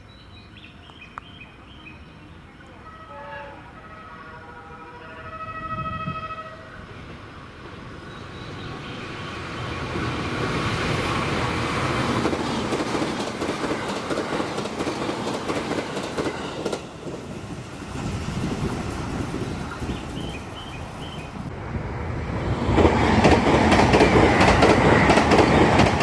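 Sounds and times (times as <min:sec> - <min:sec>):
train passing rumble: 0:00.3 - 0:26.0.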